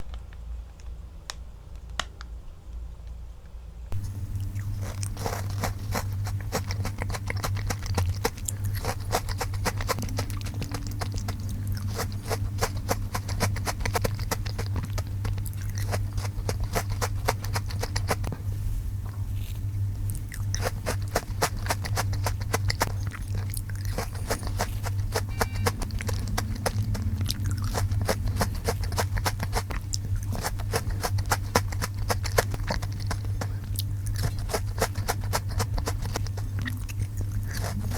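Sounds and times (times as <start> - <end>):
steady low hum: 0.0 - 37.9
crunching and chewing snacks: 3.9 - 37.9.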